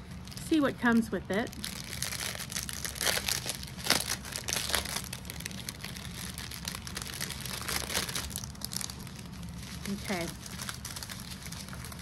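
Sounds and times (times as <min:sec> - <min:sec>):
plastic bags crinkling: 0:00.1 - 0:12.0.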